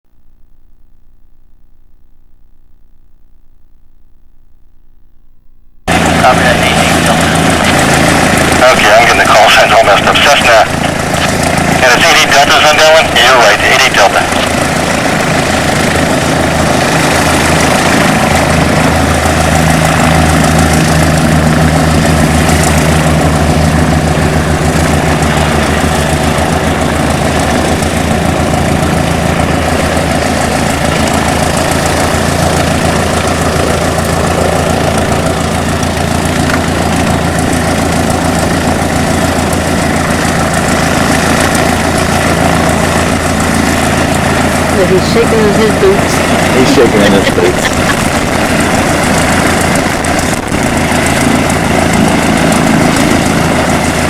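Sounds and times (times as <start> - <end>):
propeller plane engine idling: 0.1 - 54.0.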